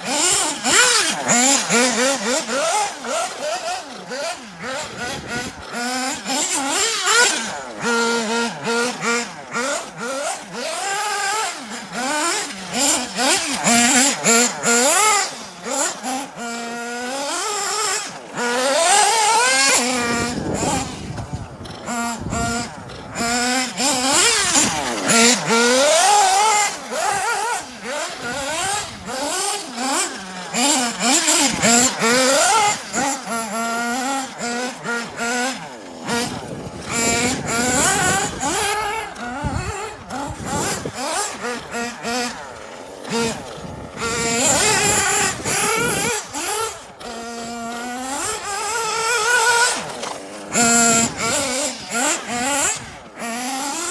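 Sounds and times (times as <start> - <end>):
small engine revving high: 0.0 - 53.9.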